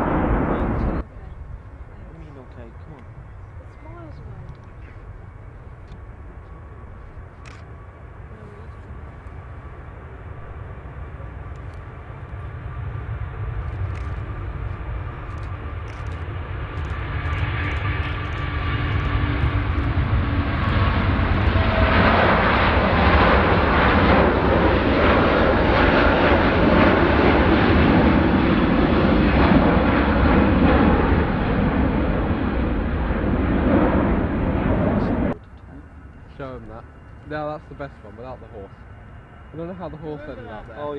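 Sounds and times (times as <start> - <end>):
jet airliner engines: 0.0 - 40.9.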